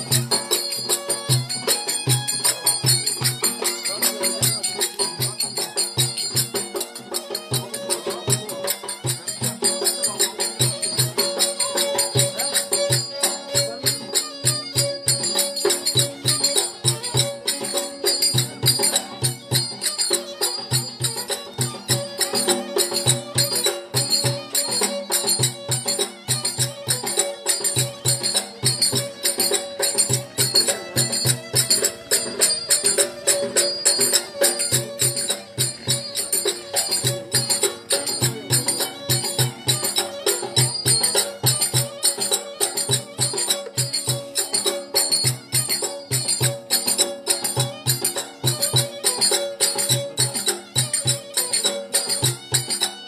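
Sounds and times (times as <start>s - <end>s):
bowed fiddle melody: 0.0s - 53.0s
frame drum beat: 0.0s - 53.0s.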